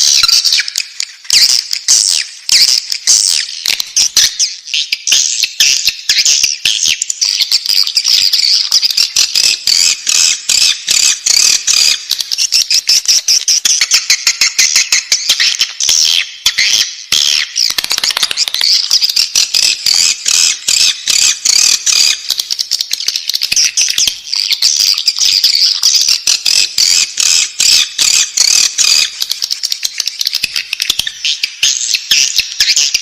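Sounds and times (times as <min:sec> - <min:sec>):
bird chicks chirping: 0:00.0 - 0:33.0.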